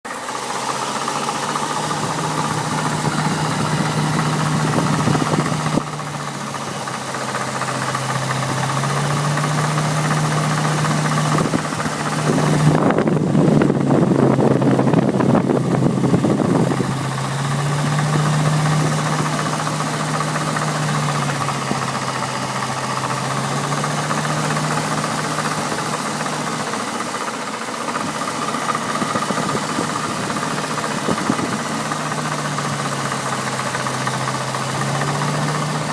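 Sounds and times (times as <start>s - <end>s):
car engine idling: 0.0s - 35.9s
engine clicking: 0.0s - 35.9s.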